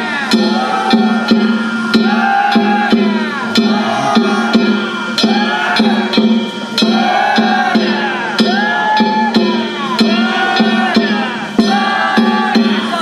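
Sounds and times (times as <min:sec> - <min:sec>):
metal hand gongs ringing: 0:00.0 - 0:13.0
taiko drum beating: 0:00.0 - 0:13.0.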